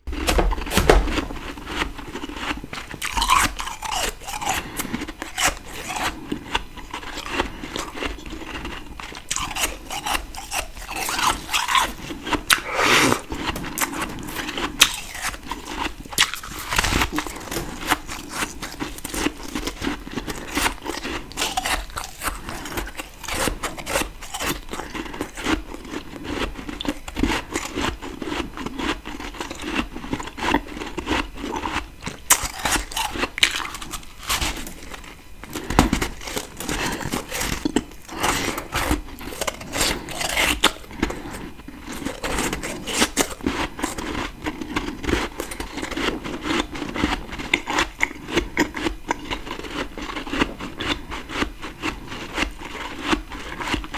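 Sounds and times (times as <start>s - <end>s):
crunchy chewing of frost: 0.1s - 53.9s.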